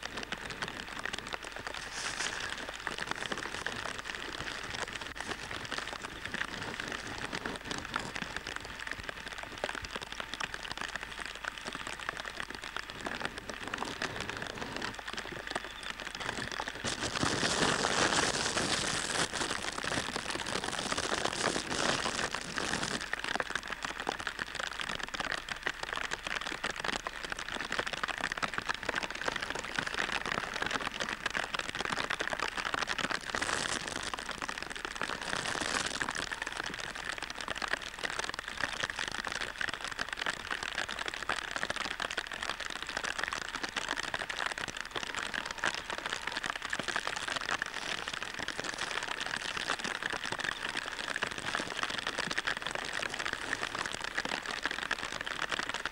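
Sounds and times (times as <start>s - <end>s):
rain pattering: 0.0s - 55.9s.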